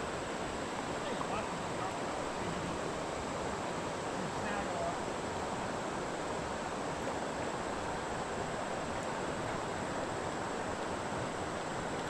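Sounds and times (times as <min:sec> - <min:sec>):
fast-flowing creek water: 0:00.0 - 0:12.0.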